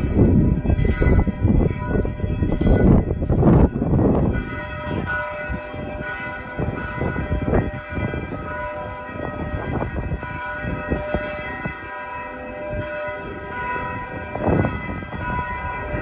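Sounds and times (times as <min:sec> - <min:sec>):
hum of ringing bells: 0:00.0 - 0:16.0.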